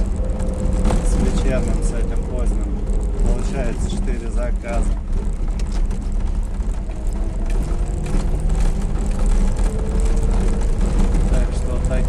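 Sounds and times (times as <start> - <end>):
body clicks and rattles: 0.0 - 12.0
van engine and road rumble: 0.0 - 12.0.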